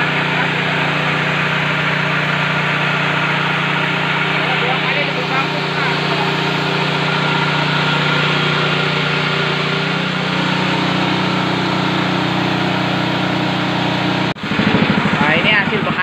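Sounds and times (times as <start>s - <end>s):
rice mill machine drone: 0.0s - 16.0s.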